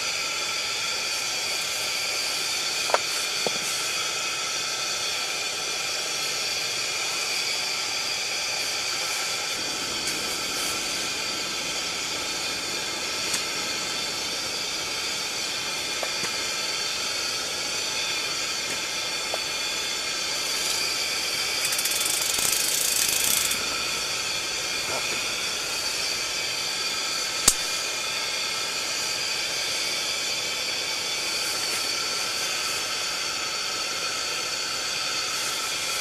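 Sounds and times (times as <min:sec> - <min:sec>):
pressure lantern hissing: 0:00.0 - 0:36.0.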